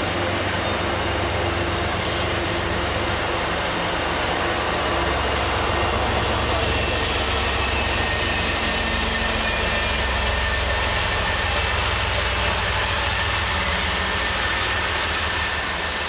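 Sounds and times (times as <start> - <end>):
diesel locomotive: 0.0 - 16.0
train wheels rumbling on rails: 0.0 - 16.0.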